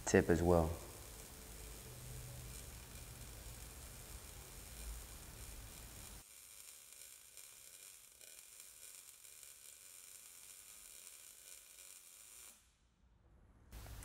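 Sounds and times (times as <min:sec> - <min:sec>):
welding arc hiss: 0:00.0 - 0:12.8, 0:13.8 - 0:14.0.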